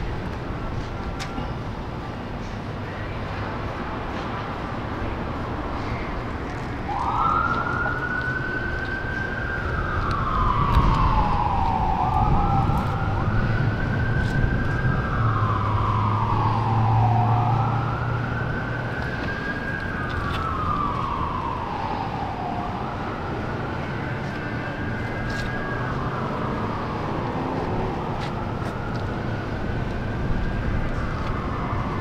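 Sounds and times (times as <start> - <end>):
emergency siren wailing: 2.9 - 32.0.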